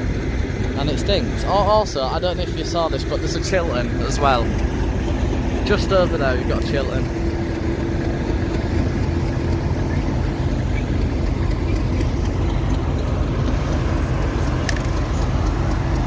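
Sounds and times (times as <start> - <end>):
locomotive engine idling: 0.0 - 16.0.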